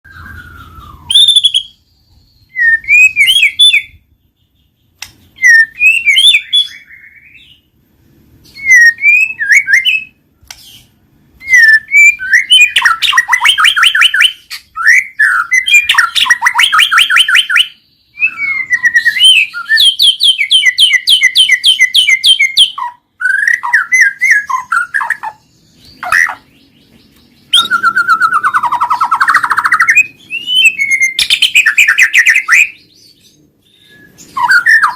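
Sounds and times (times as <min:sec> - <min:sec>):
bird singing whistled trills: 0:00.0 - 0:07.7, 0:08.4 - 0:34.9.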